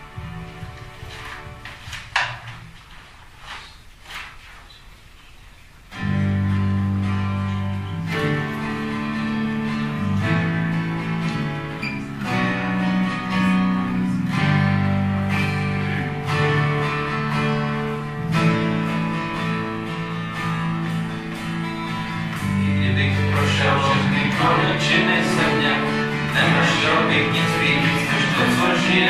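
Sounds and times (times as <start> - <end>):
acoustic guitar strumming: 0.0 - 2.8, 5.9 - 29.0.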